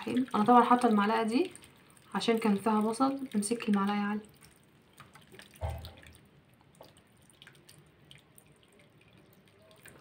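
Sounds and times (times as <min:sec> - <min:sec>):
broth trickling into a pan: 0:00.0 - 0:10.0
small drips and splashes: 0:00.0 - 0:10.0.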